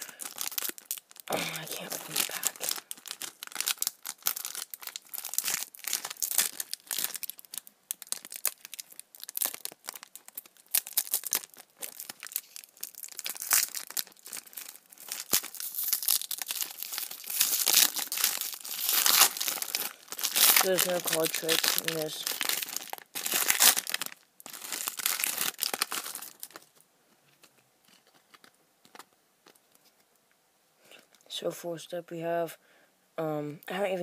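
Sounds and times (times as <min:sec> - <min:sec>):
foil wrapper crinkling and tearing: 0:00.0 - 0:26.8, 0:27.4 - 0:29.7.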